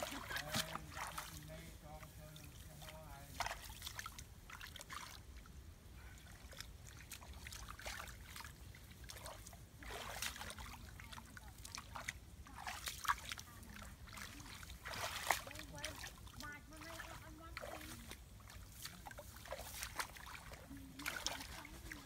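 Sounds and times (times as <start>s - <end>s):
water trickling: 0.0s - 5.6s, 6.3s - 22.0s
muddy water splashing: 0.0s - 22.0s.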